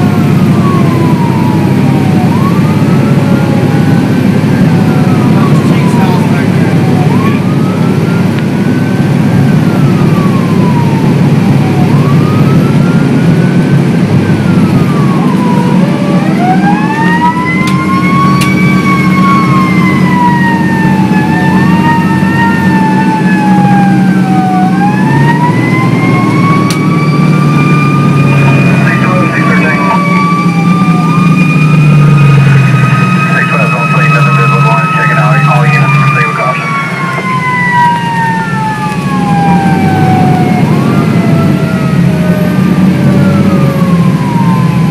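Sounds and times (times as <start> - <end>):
engine and road rumble: 0.0 - 44.9
fire engine siren wailing: 0.0 - 44.9
second wailing siren tone: 0.0 - 44.9.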